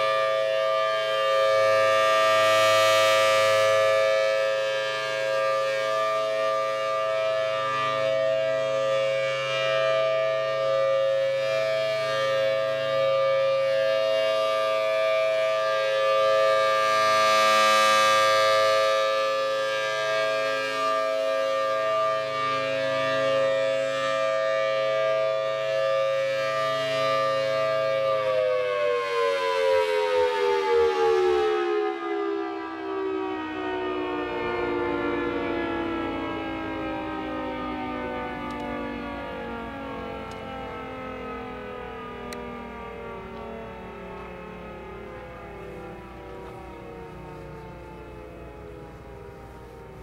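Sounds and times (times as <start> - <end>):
outdoor warning siren: 0.0 - 50.0.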